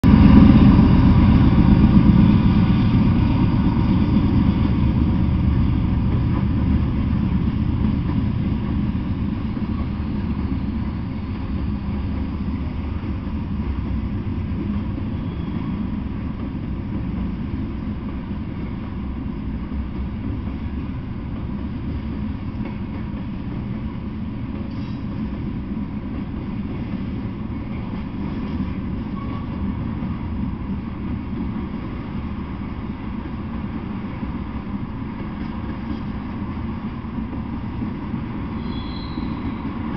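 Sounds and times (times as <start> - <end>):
diesel locomotive rumble: 0.0 - 39.9.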